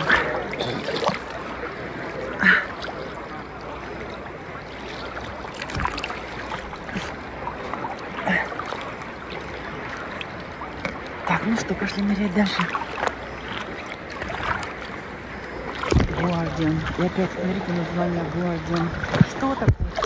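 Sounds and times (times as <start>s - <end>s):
sea water lapping and sloshing: 0.0s - 20.0s.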